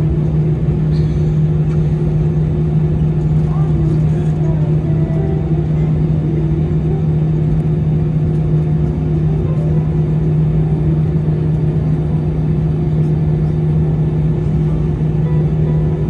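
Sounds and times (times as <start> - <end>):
aircraft cabin engine drone: 0.0 - 16.0
low hum: 0.0 - 16.0.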